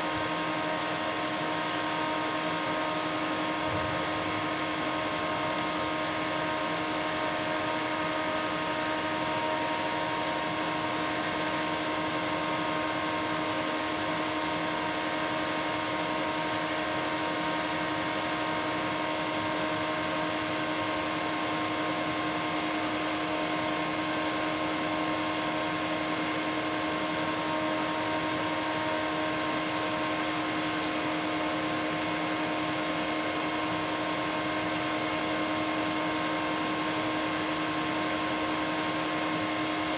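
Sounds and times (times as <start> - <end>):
electrical hum: 0.0 - 39.9
water boiling: 0.0 - 39.9.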